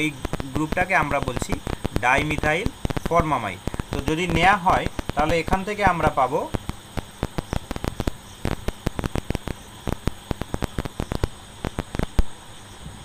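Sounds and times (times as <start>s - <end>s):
rapid clicks and taps: 0.0s - 12.4s
electrical hum and hiss: 0.0s - 13.0s.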